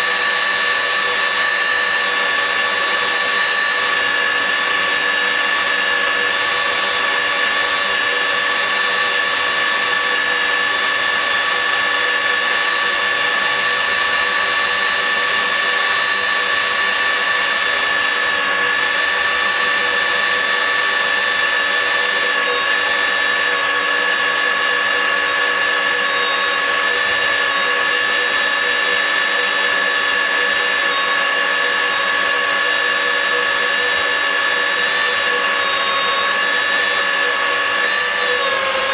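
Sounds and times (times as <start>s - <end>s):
magnetic drill motor whining: 0.0s - 38.9s.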